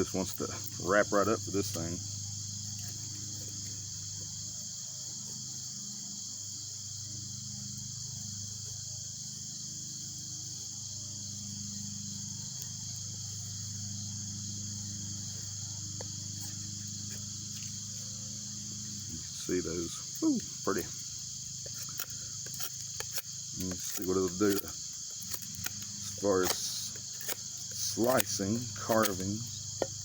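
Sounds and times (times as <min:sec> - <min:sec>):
insect chorus trilling: 0:00.0 - 0:30.0.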